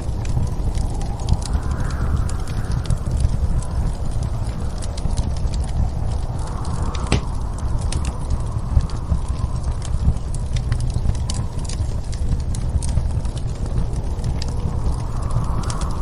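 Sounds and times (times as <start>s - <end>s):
storm wind gusts: 0.0s - 16.0s
wood fire crackling and popping: 0.0s - 16.0s.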